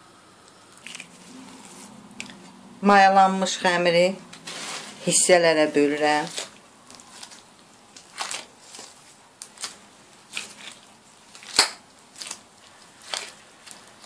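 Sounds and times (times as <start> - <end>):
plastic gloves crinkling: 0.7 - 2.6, 3.7 - 14.0.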